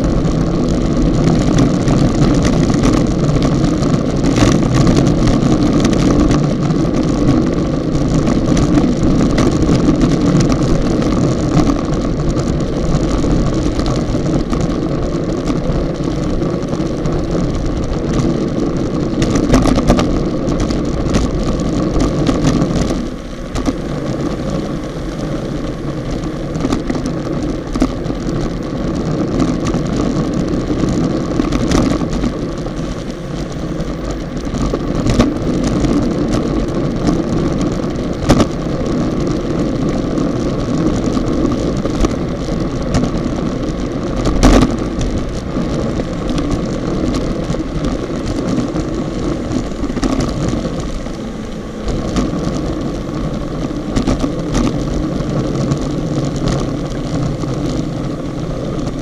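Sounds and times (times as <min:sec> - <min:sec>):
road rumble: 0:00.0 - 0:59.0
wind rushing: 0:00.0 - 0:59.0.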